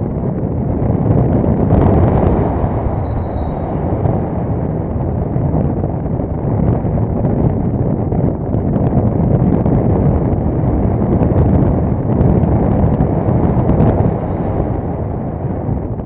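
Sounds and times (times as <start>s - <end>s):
wind roar over microphone: 0.0s - 16.0s.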